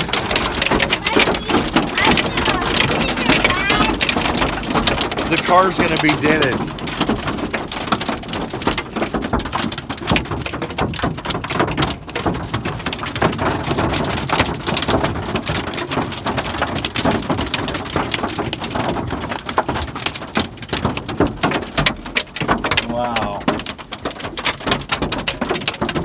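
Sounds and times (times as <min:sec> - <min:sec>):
hailstones pelting a vehicle: 0:00.0 - 0:26.0.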